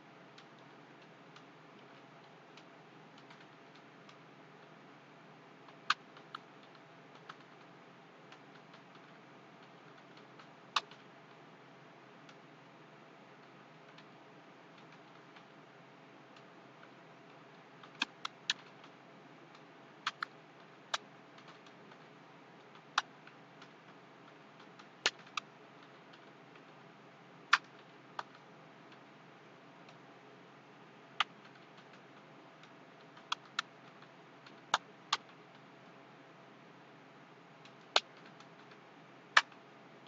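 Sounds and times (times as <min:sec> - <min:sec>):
faint steady hiss: 0:00.0 - 0:40.0.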